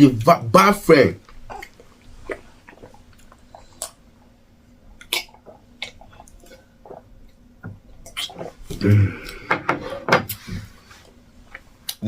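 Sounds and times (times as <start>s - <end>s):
people chewing and smacking: 1.2s - 4.0s, 5.0s - 12.0s.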